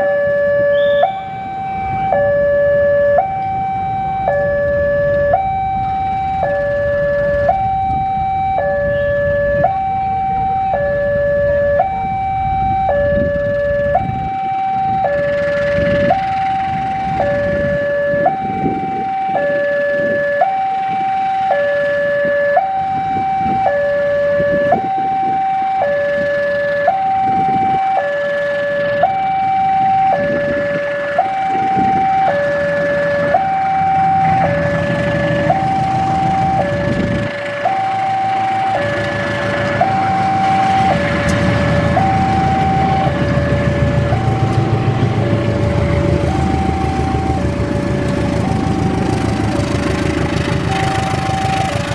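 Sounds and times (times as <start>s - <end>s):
diesel locomotive rumble: 0.0s - 51.9s
two-tone crossing alarm: 0.0s - 51.9s.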